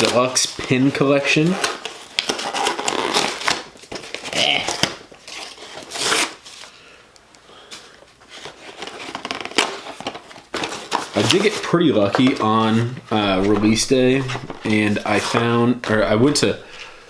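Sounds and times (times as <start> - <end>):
packaging rustling and crinkling: 0.0 - 6.7, 7.7 - 17.0.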